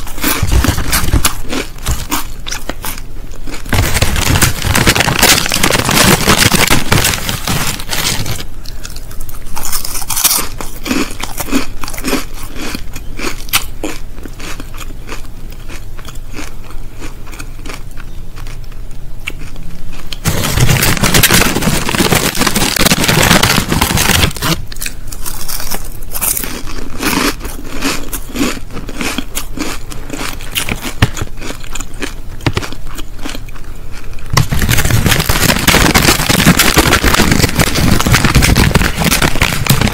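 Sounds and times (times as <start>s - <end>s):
crisp packet crinkling: 0.0s - 12.7s, 20.1s - 39.9s
crisps crunching: 0.0s - 39.9s.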